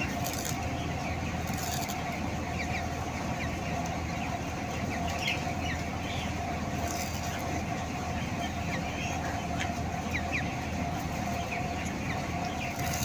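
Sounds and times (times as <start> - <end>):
chicks peeping: 0.0 - 13.0
steady hum: 0.0 - 13.0.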